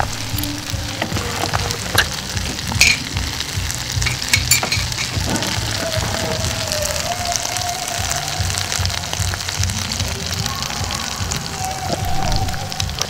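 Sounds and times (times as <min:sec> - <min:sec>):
meat sizzling in a pan: 0:00.0 - 0:13.0
music with thumping bass beat: 0:00.0 - 0:13.0.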